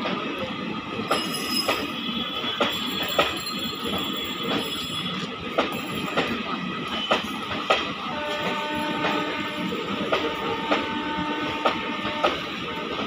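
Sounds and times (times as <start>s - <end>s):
train rumble: 0.0s - 13.0s
train wheels clattering over joints: 1.0s - 13.0s.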